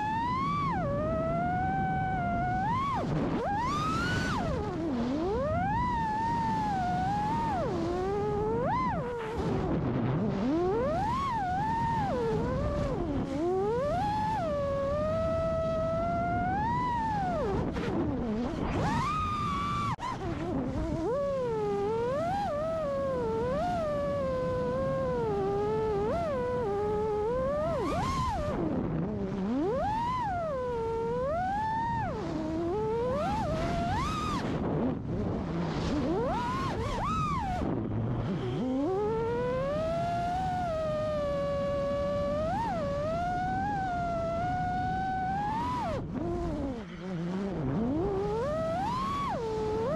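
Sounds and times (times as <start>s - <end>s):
quadcopter motors whining: 0.0s - 49.9s.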